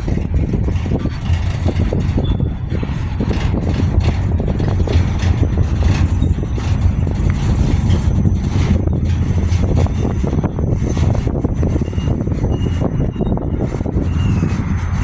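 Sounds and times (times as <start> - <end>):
freight train rumbling by: 0.0 - 15.0
train cars knocking and clanking: 0.0 - 15.0.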